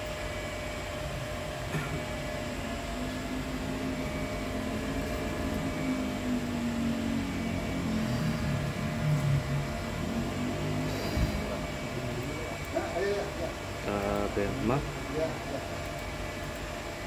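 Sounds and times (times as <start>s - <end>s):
computer fans whirring: 0.0s - 17.0s
low wavering hum: 0.0s - 17.0s.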